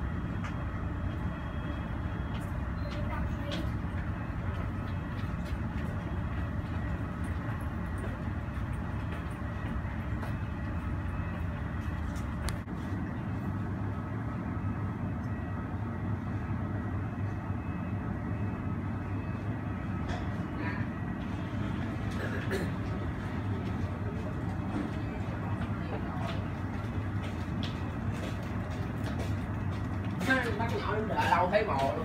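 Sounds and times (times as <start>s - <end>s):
low rumble of airport noise: 0.0s - 32.0s.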